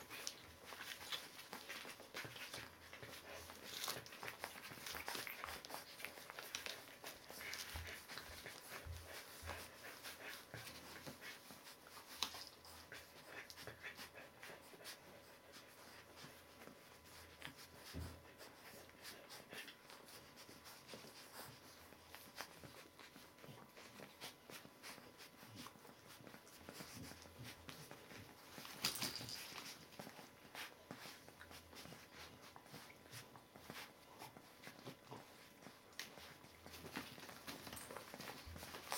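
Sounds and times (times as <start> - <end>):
puppies rustling newspaper: 0.0 - 38.9
soft puppy noises: 0.0 - 38.9.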